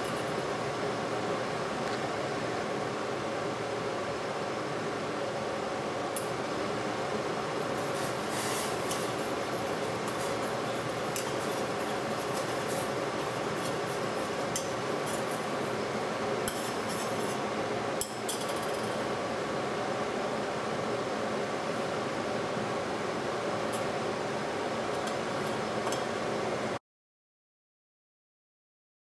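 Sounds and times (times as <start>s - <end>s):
steady background hum: 0.0s - 26.8s.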